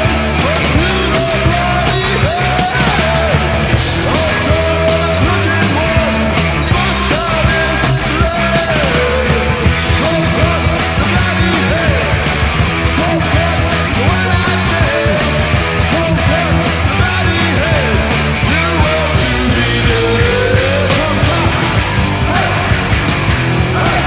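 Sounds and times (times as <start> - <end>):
speed metal music: 0.0 - 24.0.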